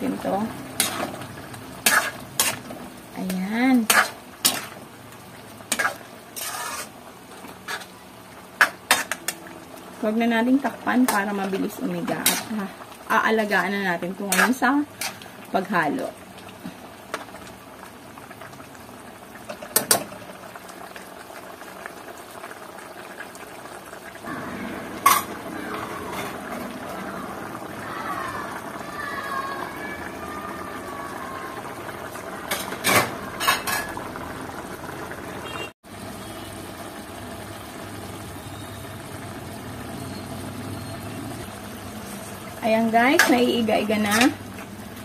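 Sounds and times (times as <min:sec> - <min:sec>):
stew simmering and bubbling: 0:00.0 - 0:45.0.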